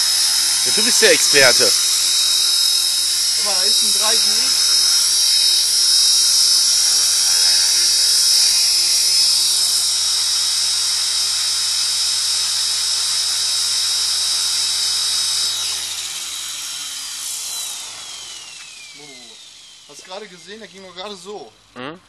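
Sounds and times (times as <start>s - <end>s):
rc helicopter motor whine: 0.0s - 21.4s.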